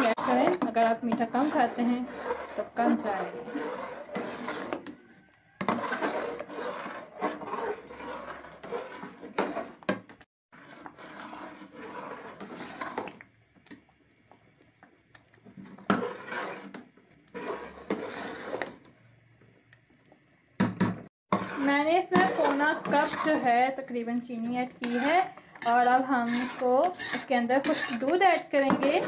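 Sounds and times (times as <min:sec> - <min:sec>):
spoon scraping a metal pot: 0:00.0 - 0:13.2, 0:15.6 - 0:18.9, 0:21.3 - 0:29.0.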